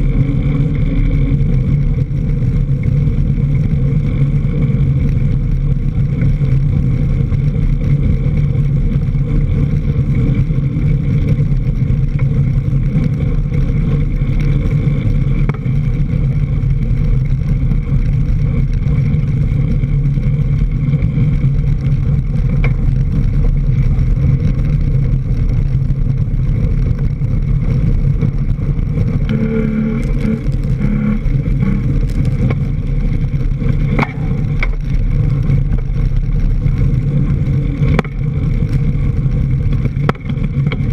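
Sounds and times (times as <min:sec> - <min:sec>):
bike tyres rolling on dirt: 0:00.0 - 0:40.9
wind buffeting: 0:00.0 - 0:40.9.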